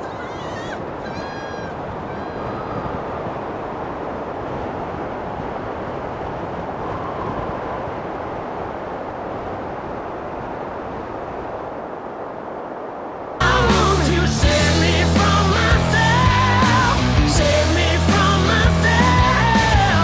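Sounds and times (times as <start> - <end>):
strong wind rushing: 0.0 - 19.8.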